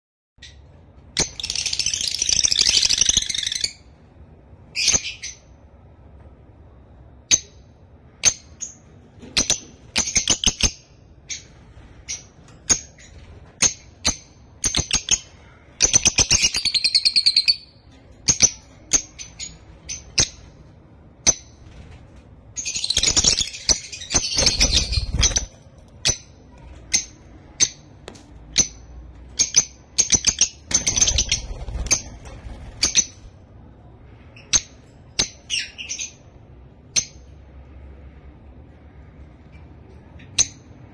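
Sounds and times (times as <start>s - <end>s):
birds chirping and chattering: 0.4s - 6.1s, 6.9s - 40.9s.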